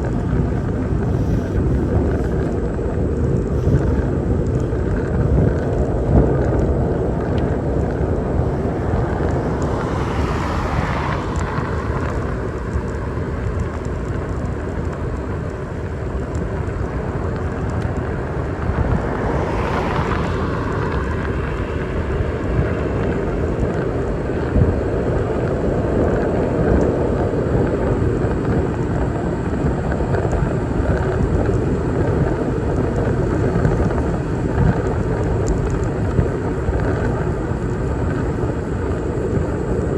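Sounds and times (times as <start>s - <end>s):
bicycle road rumble: 0.0s - 39.9s
vehicles passing: 0.0s - 39.9s
wind on microphone: 0.0s - 39.9s.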